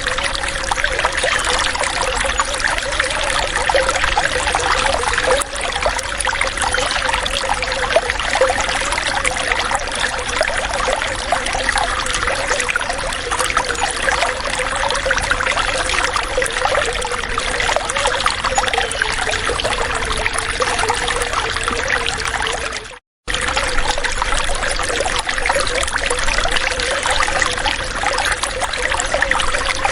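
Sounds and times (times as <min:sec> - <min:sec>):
water trickling and splashing: 0:00.0 - 0:29.9.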